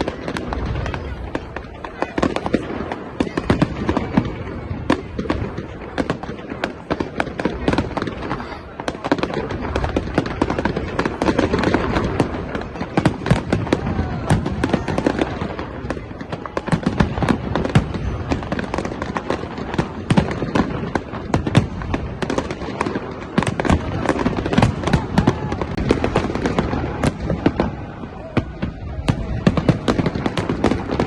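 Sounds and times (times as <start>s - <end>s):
crowd voices: 0.0s - 31.0s
fireworks cracks and bangs: 0.0s - 31.0s.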